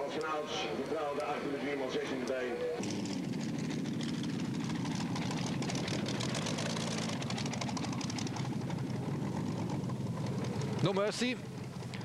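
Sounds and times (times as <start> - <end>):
racing engine idling with ticking: 0.0 - 12.0.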